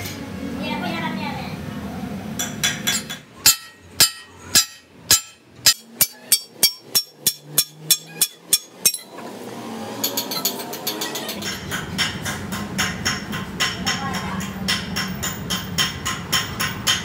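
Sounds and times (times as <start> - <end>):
hammer striking metal: 2.4 - 9.2, 10.0 - 17.0.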